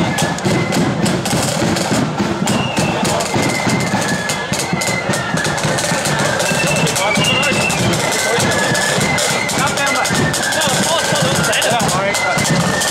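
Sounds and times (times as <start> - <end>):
fast snare drumming: 0.0 - 12.9
high flute melody: 0.0 - 12.9.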